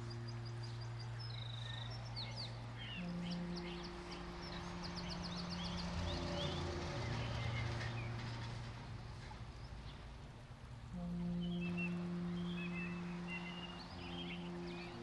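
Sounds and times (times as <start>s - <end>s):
low steady hum of tones: 0.0s - 15.0s
songbirds chirping and trilling: 0.0s - 15.0s.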